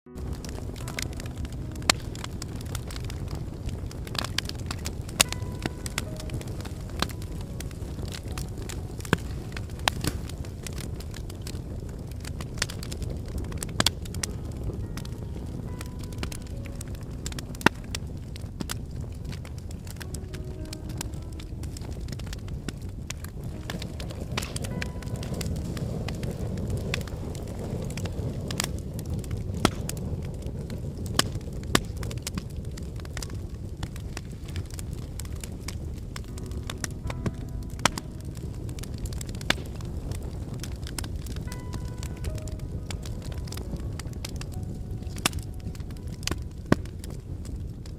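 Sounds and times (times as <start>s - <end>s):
low steady fire rush: 0.1s - 47.9s
wood fire crackling and popping: 0.1s - 47.9s.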